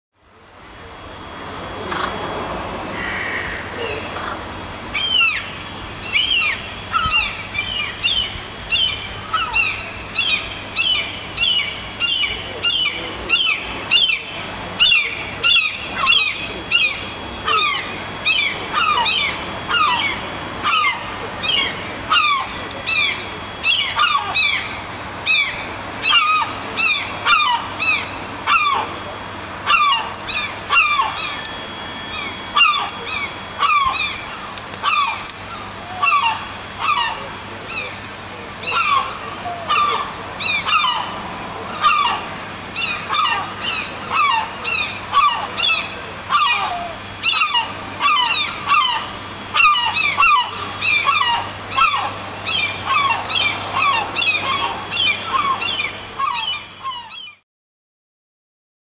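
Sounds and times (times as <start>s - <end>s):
gulls calling: 0.3s - 57.4s.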